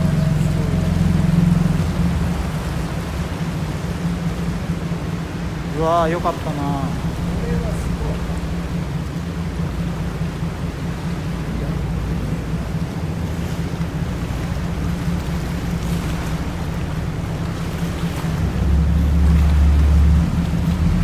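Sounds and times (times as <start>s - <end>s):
boat engine humming: 0.0s - 21.0s
water washing against hull: 0.0s - 21.0s.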